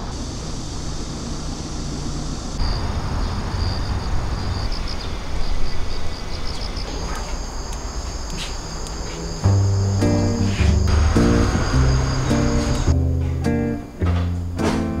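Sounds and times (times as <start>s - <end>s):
high insect buzz: 0.0s - 13.0s
distant traffic rumble: 0.0s - 15.0s.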